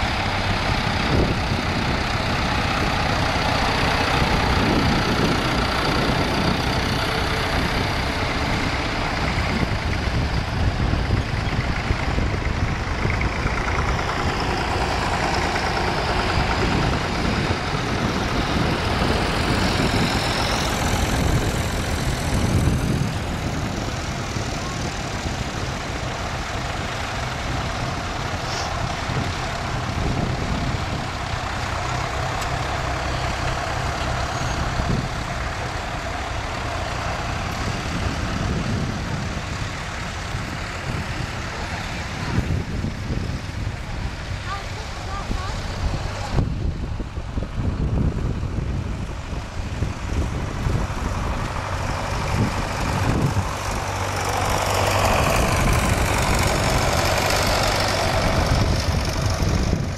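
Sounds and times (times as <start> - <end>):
tractor engines running: 0.0 - 59.9.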